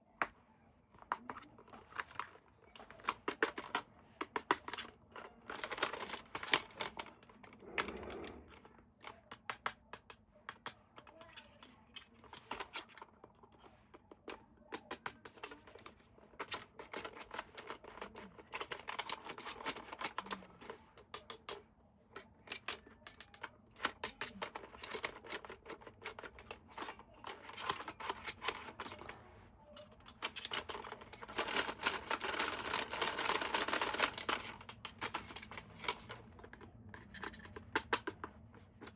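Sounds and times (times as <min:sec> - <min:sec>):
toy packaging clicking and crinkling: 0:00.9 - 0:38.9.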